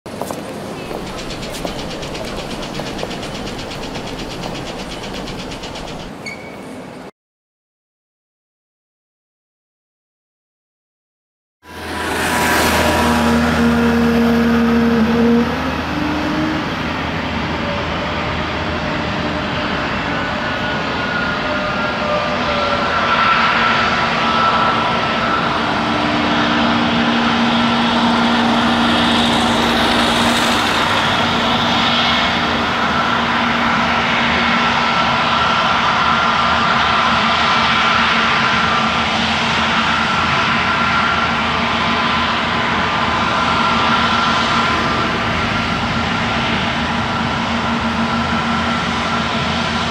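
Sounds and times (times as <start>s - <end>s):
engine whine: 0.1s - 6.2s, 11.6s - 49.9s
jet engines taxiing: 0.1s - 7.1s, 11.7s - 49.9s.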